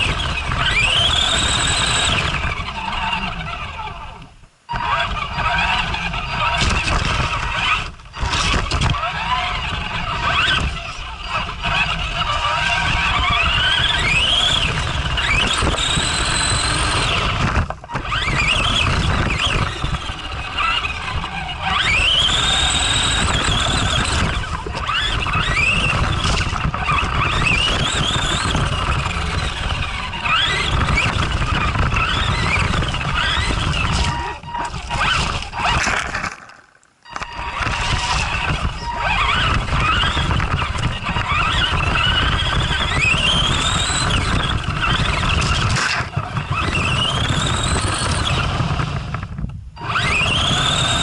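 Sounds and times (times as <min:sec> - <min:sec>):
electric motor whining: 0:00.0 - 0:51.0.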